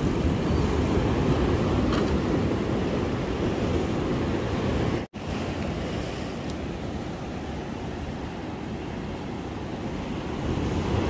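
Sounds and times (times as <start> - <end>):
waves washing: 0.0 - 11.0.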